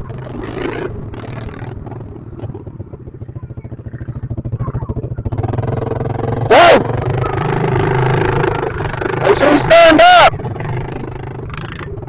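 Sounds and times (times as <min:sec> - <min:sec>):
motorbike engine chugging: 0:00.0 - 0:12.0.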